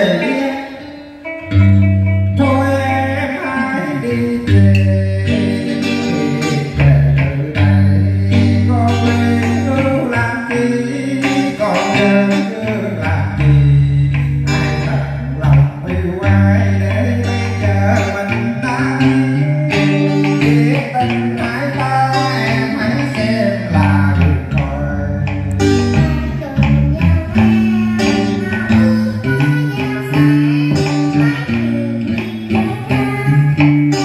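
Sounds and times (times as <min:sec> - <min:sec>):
person singing into microphone: 0:00.0 - 0:34.0
plucked electric guitar: 0:00.0 - 0:34.0.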